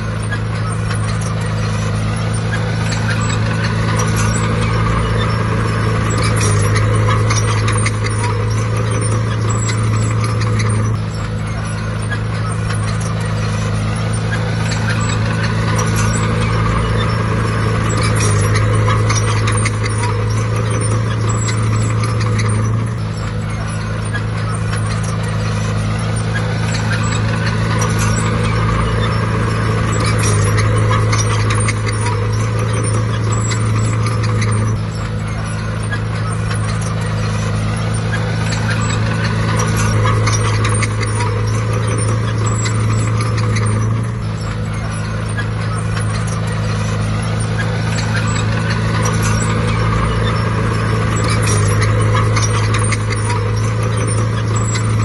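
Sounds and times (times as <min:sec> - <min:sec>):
bulldozer engine running hard: 0:00.0 - 0:55.0
clicking rattle: 0:00.0 - 0:55.0.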